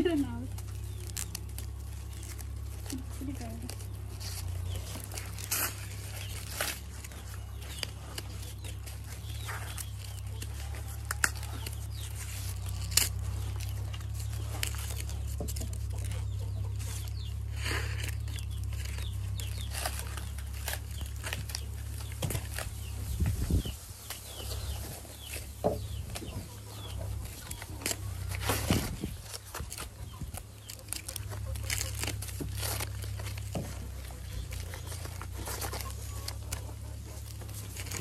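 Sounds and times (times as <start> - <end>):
corn husks tearing: 0.0 - 38.0.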